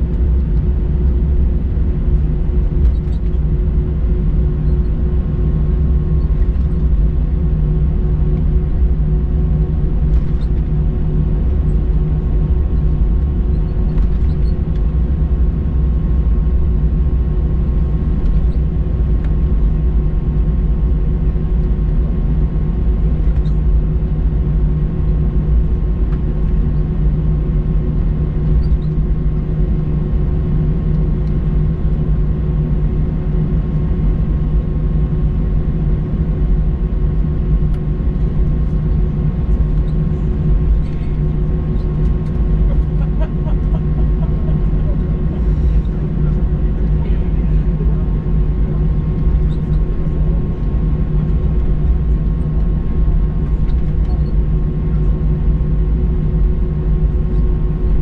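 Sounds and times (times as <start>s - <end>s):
aircraft engines idling rumble: 0.0s - 58.0s
constant cabin hum: 0.0s - 58.0s.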